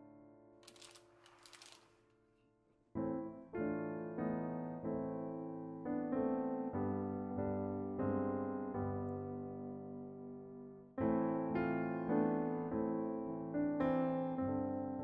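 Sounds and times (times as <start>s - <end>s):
gentle piano music: 0.0s - 0.6s, 2.9s - 15.0s.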